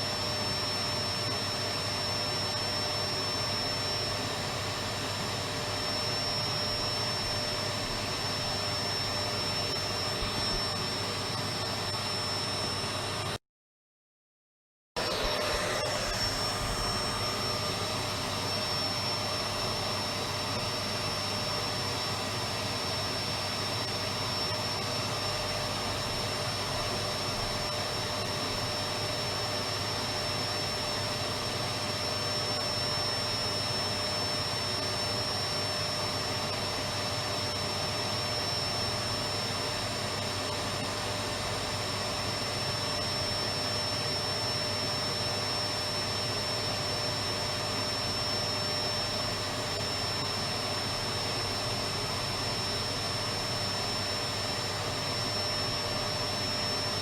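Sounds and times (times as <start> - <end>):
vacuum cleaner running: 0.0 - 13.4, 15.0 - 57.0.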